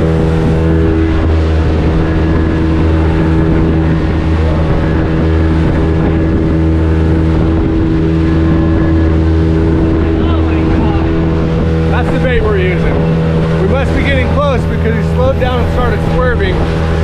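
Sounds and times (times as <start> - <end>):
outboard motor running: 0.0 - 17.0
water noise: 0.0 - 17.0
wind noise: 0.0 - 17.0.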